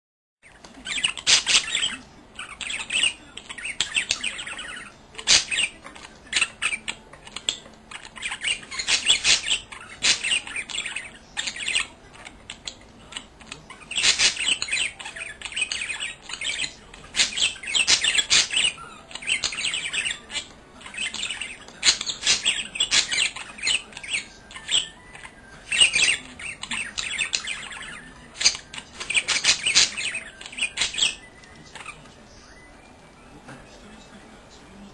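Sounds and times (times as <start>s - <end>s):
budgerigar chattering and warbling: 0.5s - 32.0s.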